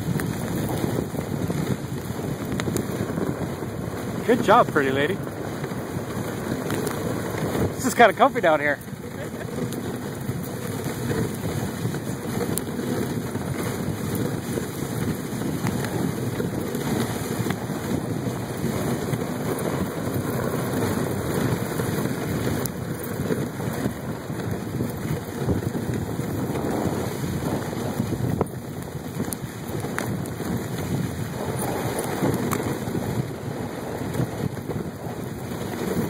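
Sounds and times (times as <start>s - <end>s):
sled runners rushing over snow: 0.0s - 36.0s
wind on microphone: 0.0s - 36.0s.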